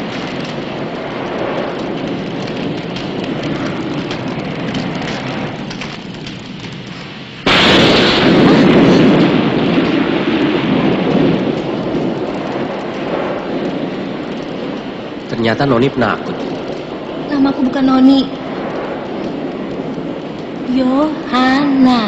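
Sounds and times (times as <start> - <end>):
steady rain: 0.0 - 22.0
thunderclap rumbling: 0.0 - 22.0.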